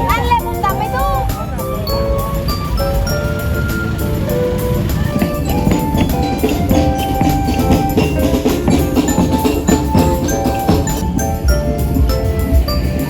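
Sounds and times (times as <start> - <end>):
bright mallet percussion music: 0.0 - 13.0.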